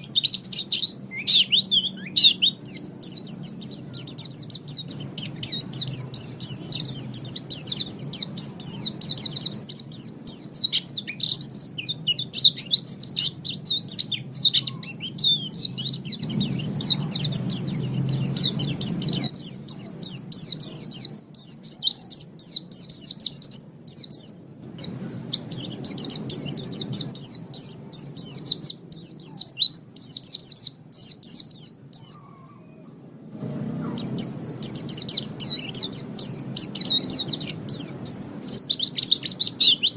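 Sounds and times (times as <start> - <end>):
bird twittering: 0.0 - 39.9
faint low hum: 0.0 - 39.9.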